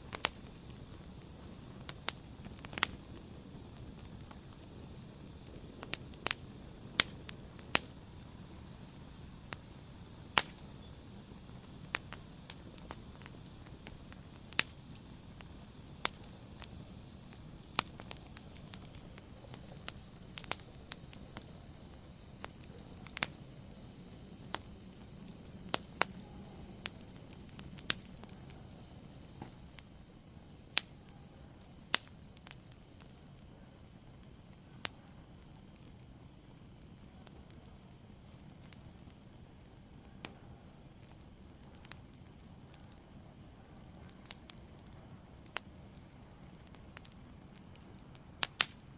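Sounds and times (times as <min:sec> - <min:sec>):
logs popping and crackling: 0:00.0 - 0:48.9
wood fire hissing: 0:00.0 - 0:48.9.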